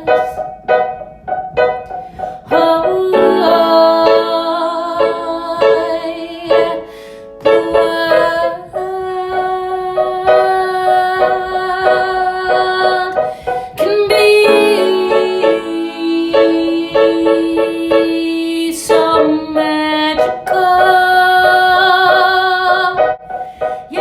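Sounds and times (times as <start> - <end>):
piano song with held chords: 0.0 - 24.0.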